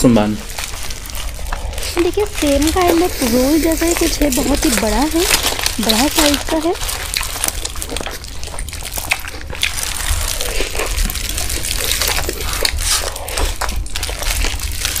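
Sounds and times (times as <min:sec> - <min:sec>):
wet chewing and mouth sounds: 0:00.0 - 0:15.0.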